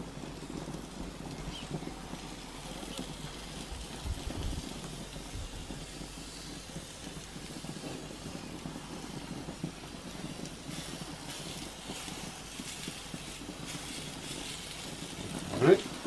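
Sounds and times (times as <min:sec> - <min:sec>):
gas grill hissing: 0:00.0 - 0:16.0
meat sizzling on grill: 0:00.0 - 0:16.0.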